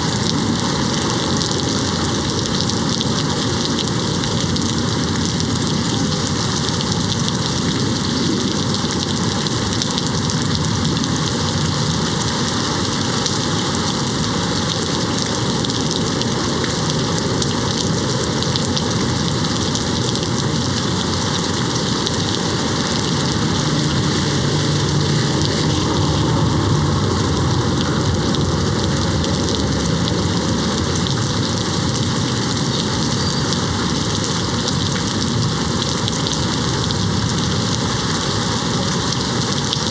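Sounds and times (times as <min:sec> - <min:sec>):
rain hitting a window: 0:00.0 - 0:39.9.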